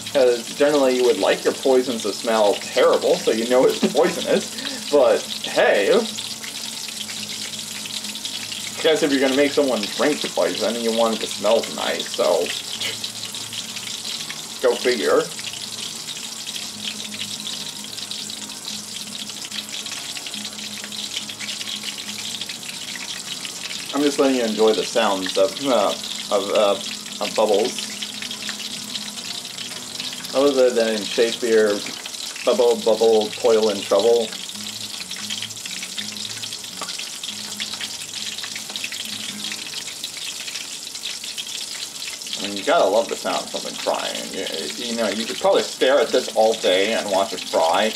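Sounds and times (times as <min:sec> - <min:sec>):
oil sizzling and popping: 0:00.0 - 0:47.9.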